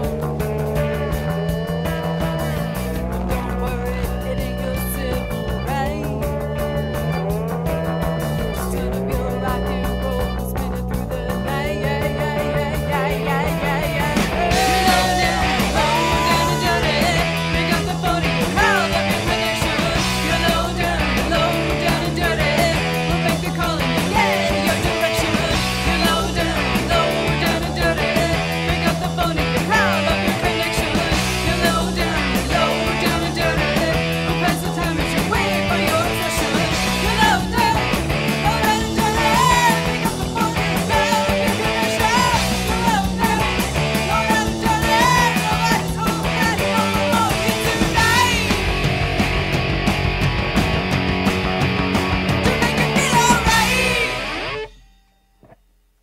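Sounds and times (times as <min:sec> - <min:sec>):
rock band playing: 0:00.0 - 0:55.1.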